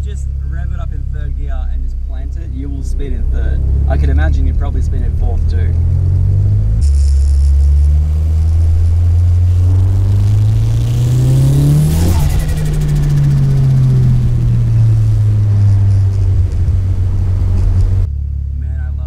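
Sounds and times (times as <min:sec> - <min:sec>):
car engine revving: 0:00.0 - 0:19.0
turbo rush of noise: 0:01.8 - 0:18.3.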